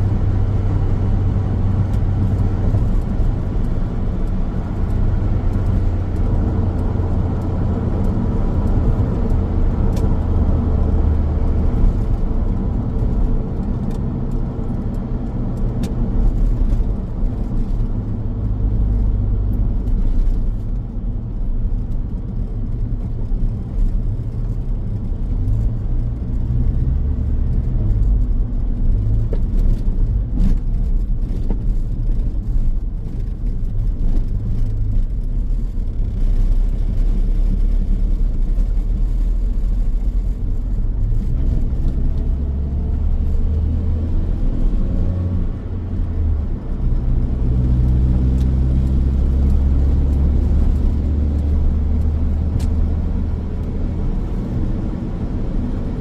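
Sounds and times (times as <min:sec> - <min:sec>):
car engine: 0:00.0 - 0:56.0
road and tyre rumble: 0:00.0 - 0:56.0.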